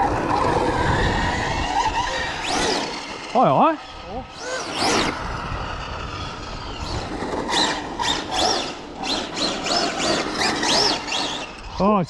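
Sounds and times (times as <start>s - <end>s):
electric motor whining: 0.0s - 11.8s.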